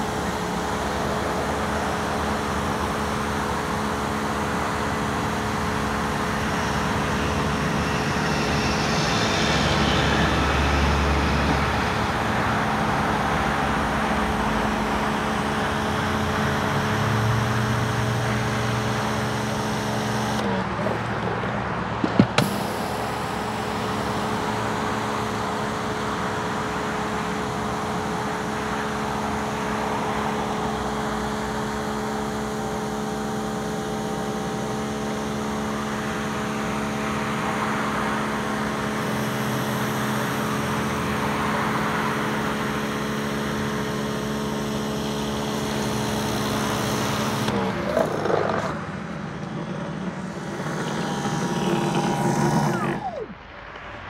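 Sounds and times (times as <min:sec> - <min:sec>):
pressure washer humming: 0:00.0 - 0:48.0, 0:49.6 - 0:54.0.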